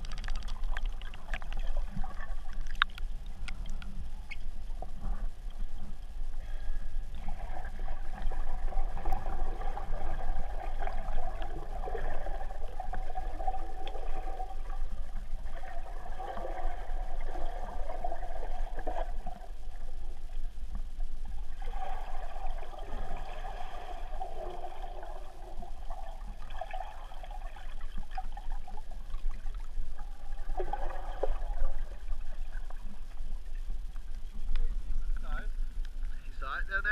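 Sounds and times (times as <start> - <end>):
gurgling water: 0.0 - 36.9
muffled underwater rumble: 0.0 - 36.9.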